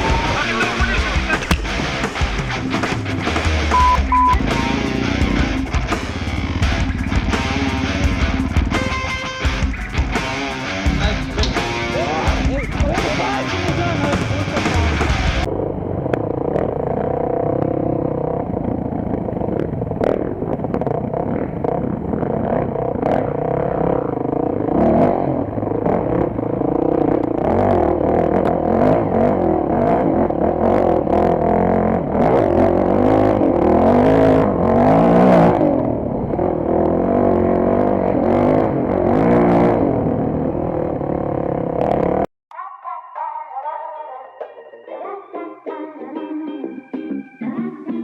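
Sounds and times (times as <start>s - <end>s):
dirt bike engine revving: 0.0s - 42.3s.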